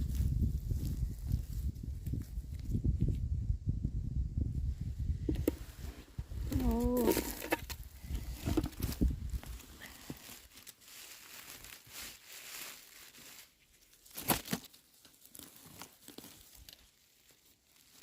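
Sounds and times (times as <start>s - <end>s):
plants and moss rustling and tearing: 0.0s - 3.2s, 5.4s - 18.0s.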